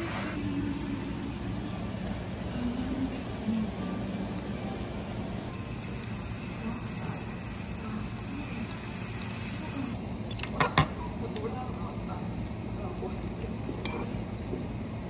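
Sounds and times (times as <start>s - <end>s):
broth boiling in a metal pan: 0.0s - 15.0s.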